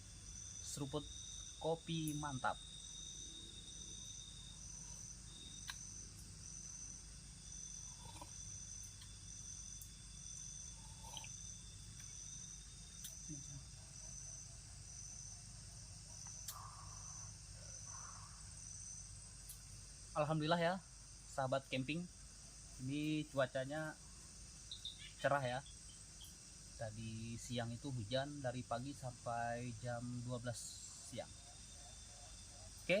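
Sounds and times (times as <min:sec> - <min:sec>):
high-pitched insect buzz: 0:00.0 - 0:21.2, 0:21.8 - 0:28.3
crickets chirping: 0:00.0 - 0:33.0.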